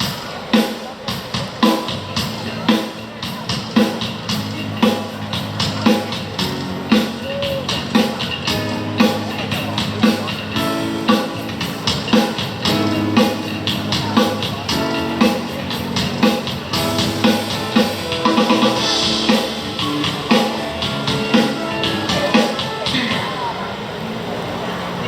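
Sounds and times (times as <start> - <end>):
drum kit playing: 0.0 - 23.4.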